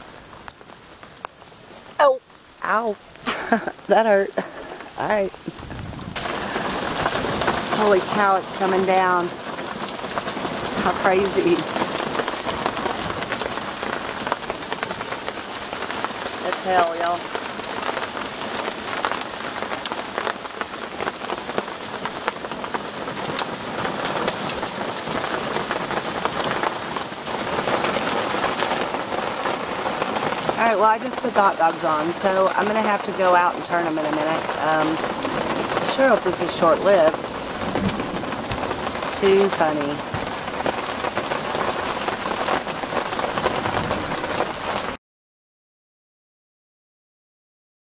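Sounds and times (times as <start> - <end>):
heavy rain hiss: 0.0 - 45.0
hailstones striking ground and van: 3.2 - 45.0.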